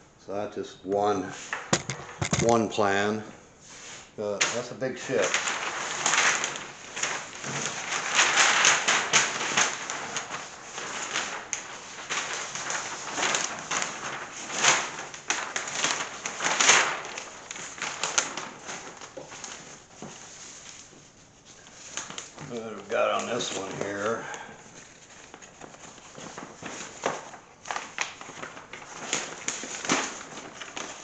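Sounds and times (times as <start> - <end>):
paper sheets rustling: 1.3 - 31.0.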